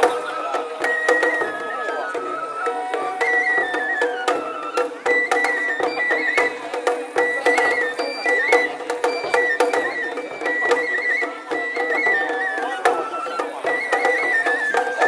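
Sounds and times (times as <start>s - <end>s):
bamboo flute melody: 0.0s - 15.0s
sharp percussion strikes: 0.0s - 15.0s.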